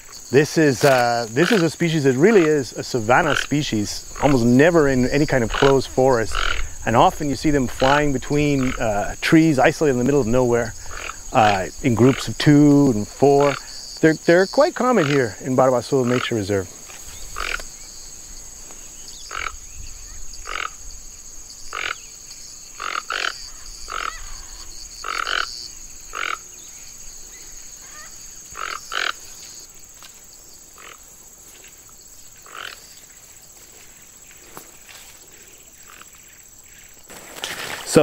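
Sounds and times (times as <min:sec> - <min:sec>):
high insect whine: 0:00.0 - 0:38.0
toucans croaking: 0:00.0 - 0:38.0.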